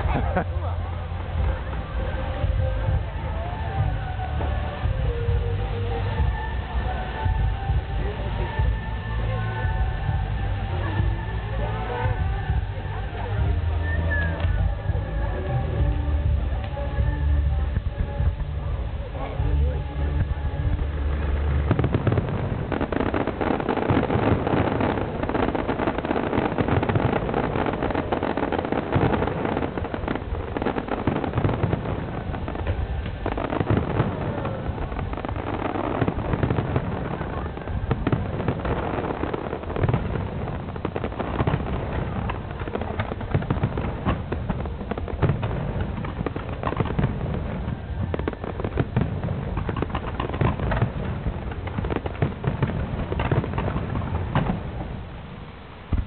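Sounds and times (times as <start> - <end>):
fireworks bangs and pops: 0.0 - 56.0.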